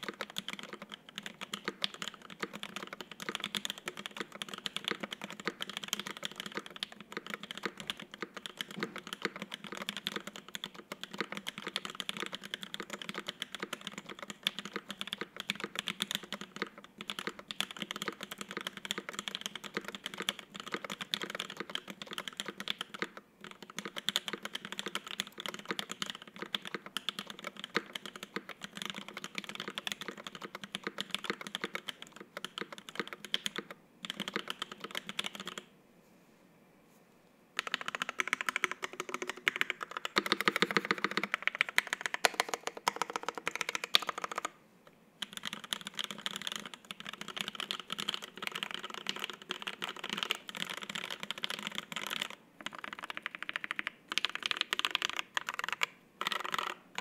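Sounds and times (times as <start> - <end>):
mechanical keyboard typing: 0.0 - 35.7, 37.6 - 44.6, 45.2 - 57.0.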